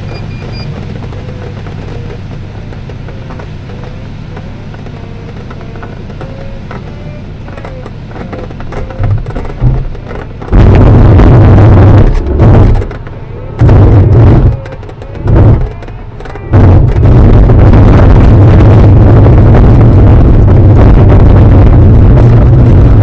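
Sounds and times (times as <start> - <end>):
glider wheel rumbling over grass: 0.0 - 23.0.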